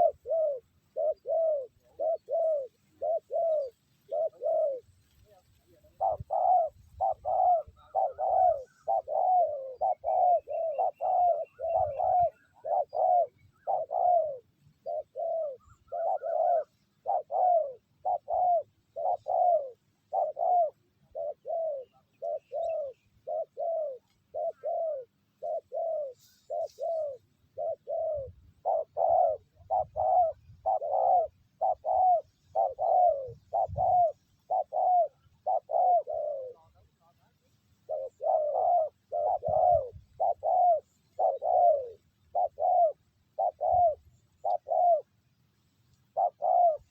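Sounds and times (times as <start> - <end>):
doves cooing: 0.0 - 45.4, 46.0 - 46.9.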